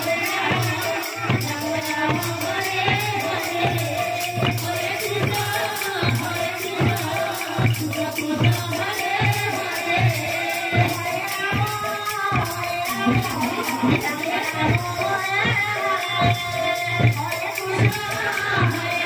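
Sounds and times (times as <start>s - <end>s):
hand cymbals striking: 0.0s - 19.0s
hand drum beating: 0.0s - 19.0s
voices singing: 0.0s - 19.0s.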